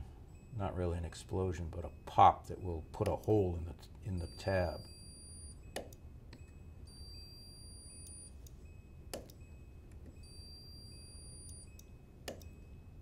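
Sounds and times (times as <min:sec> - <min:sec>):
faint high steady tone: 0:00.0 - 0:13.0.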